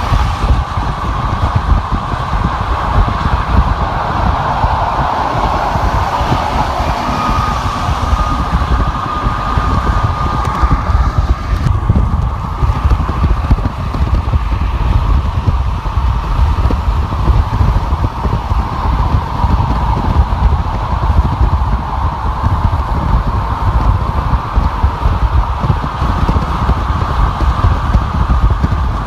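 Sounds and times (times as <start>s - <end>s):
constant whine: 0.0s - 29.0s
road rumble: 0.0s - 29.0s
tyre and wind noise: 0.0s - 29.0s.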